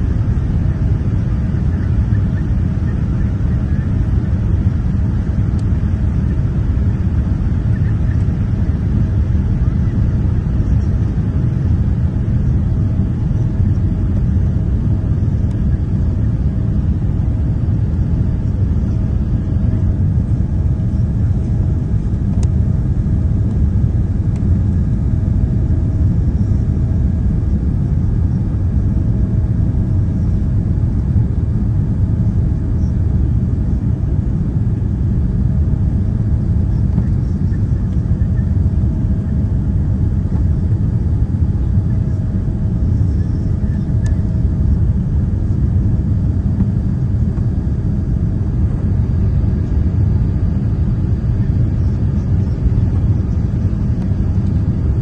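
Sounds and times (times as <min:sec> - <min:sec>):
airplane cabin engine rumble: 0:00.0 - 0:55.0
faint steady hum: 0:00.0 - 0:55.0.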